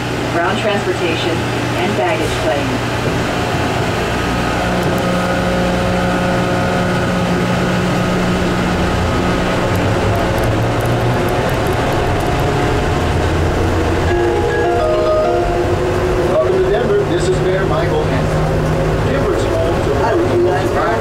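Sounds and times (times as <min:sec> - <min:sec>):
train low rumbling hum: 0:00.0 - 0:21.0
steady whining tones: 0:02.5 - 0:21.0.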